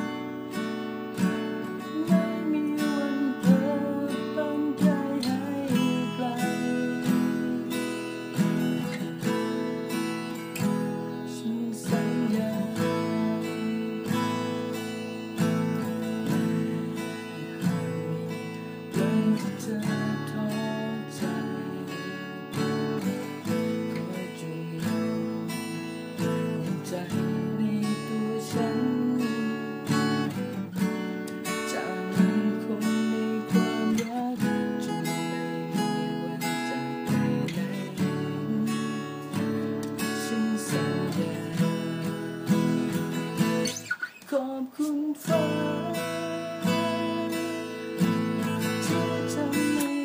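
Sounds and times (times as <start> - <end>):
strummed acoustic guitar: 0.0 - 50.0.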